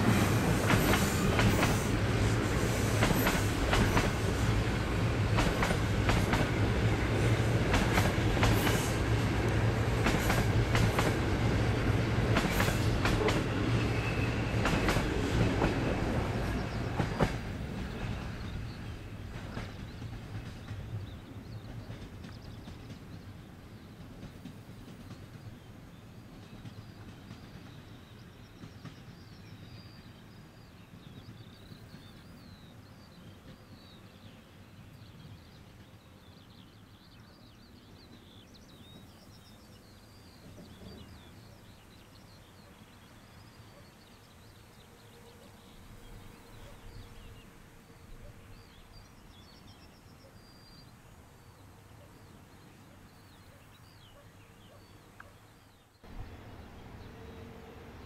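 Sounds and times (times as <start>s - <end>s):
distant train rumble: 0.0s - 55.3s, 56.0s - 58.0s.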